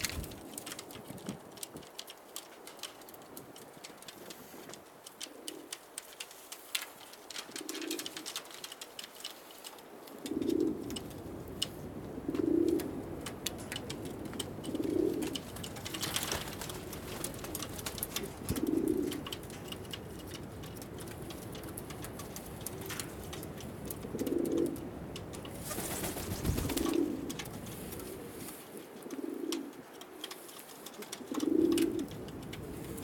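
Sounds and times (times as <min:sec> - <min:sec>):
pigeons cooing: 0:00.0 - 0:01.2, 0:04.1 - 0:33.0.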